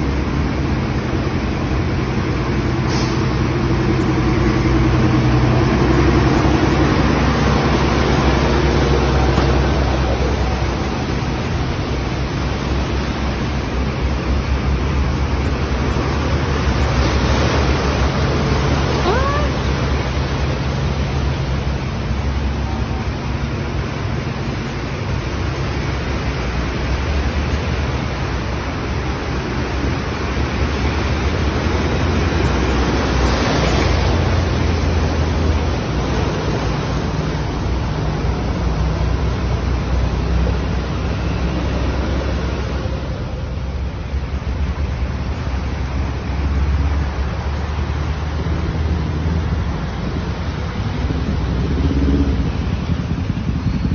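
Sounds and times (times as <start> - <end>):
floodwater rushing: 0.0 - 53.9
low engine hum: 0.0 - 53.9.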